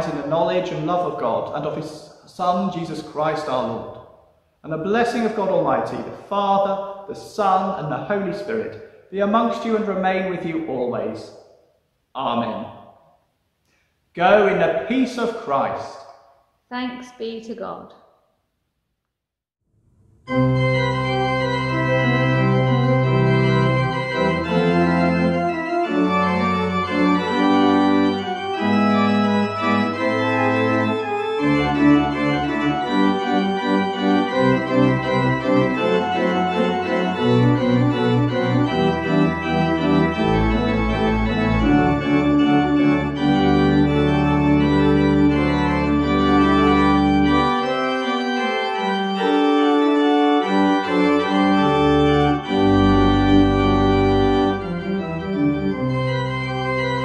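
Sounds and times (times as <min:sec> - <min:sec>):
organ playing chords: 0:00.0 - 0:03.9, 0:04.6 - 0:11.2, 0:20.1 - 0:57.0.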